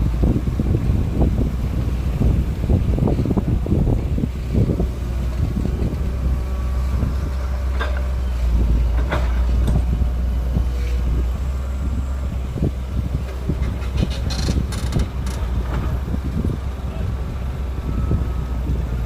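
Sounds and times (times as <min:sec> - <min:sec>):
excavator diesel engines rumbling: 0:00.0 - 0:19.0.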